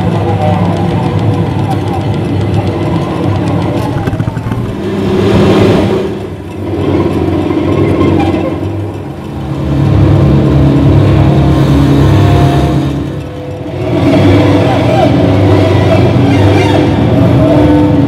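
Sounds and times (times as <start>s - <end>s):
low amplified drone: 0.0s - 18.0s.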